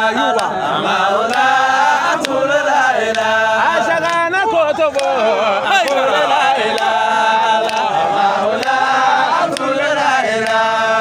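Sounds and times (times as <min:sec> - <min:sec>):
voices chanting devotional song: 0:00.0 - 0:11.0.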